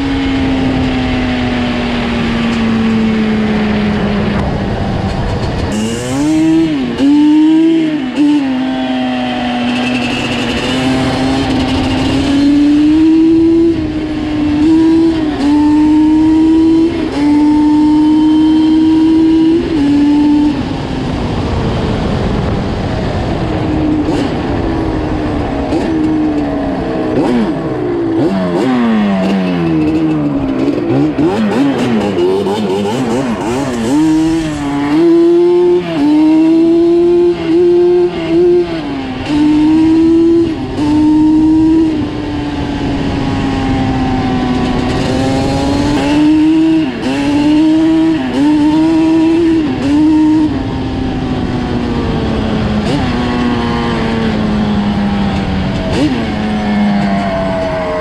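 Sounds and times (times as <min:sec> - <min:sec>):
two-stroke atv engine revving: 0:00.0 - 0:58.0.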